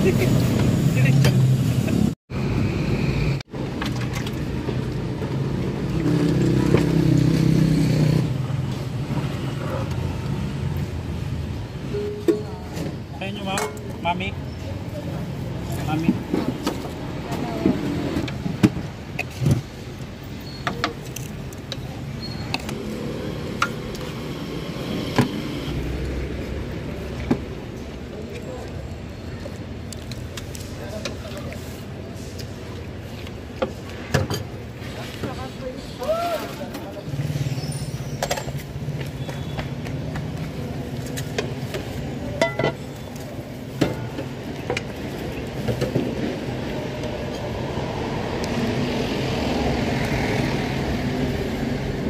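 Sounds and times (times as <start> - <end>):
street traffic hum: 0.0 - 52.0
vehicle rumble: 0.0 - 52.0.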